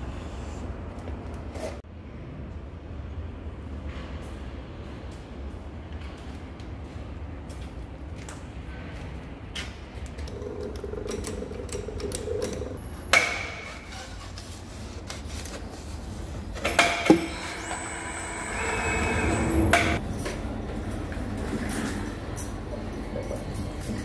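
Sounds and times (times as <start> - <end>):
low workshop hum: 0.0 - 24.0.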